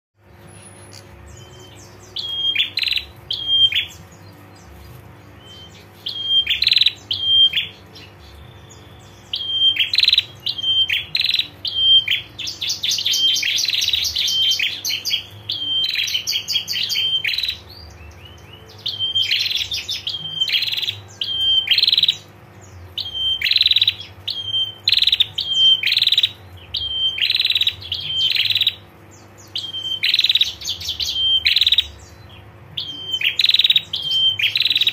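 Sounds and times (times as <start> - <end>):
faint steady hum: 0.2 - 34.9
bird rapid sharp chips: 0.3 - 34.9.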